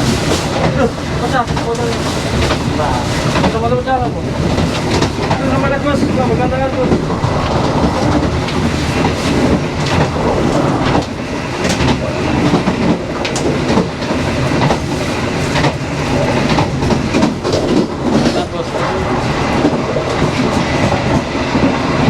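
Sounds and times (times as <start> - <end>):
train wheels rumbling on track: 0.0 - 22.0
wheels clicking over rail joints: 0.0 - 22.0.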